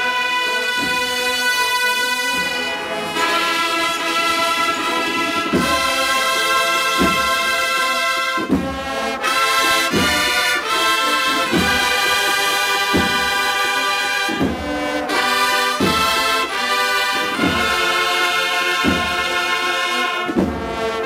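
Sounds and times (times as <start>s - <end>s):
brass band playing a march: 0.0s - 21.0s.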